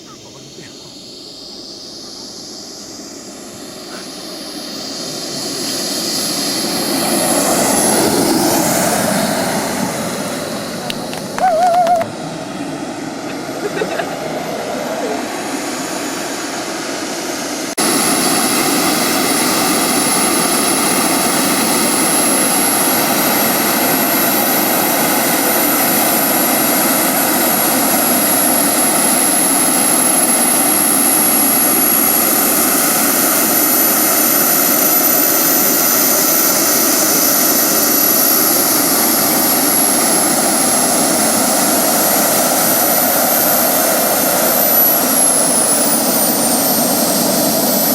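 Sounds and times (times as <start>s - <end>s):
high-pitched turbine whine: 0.0s - 47.9s
jet engine roar: 0.0s - 47.9s.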